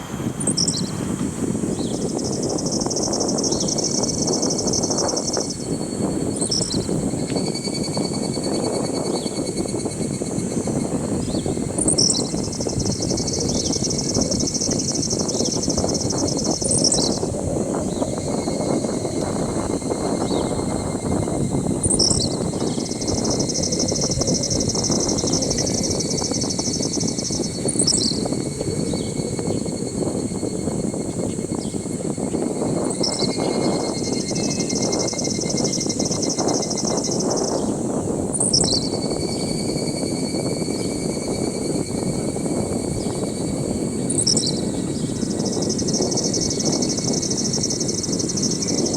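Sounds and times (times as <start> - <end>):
pulsing insect trill: 0.0 - 48.9
steady high insect tones: 0.0 - 48.9.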